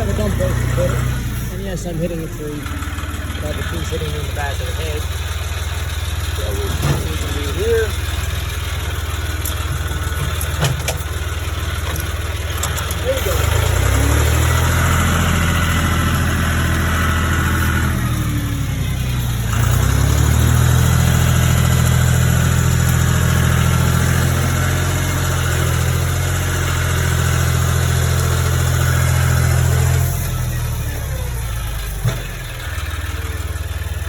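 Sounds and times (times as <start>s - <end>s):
tractor engine running under load: 0.0s - 34.0s.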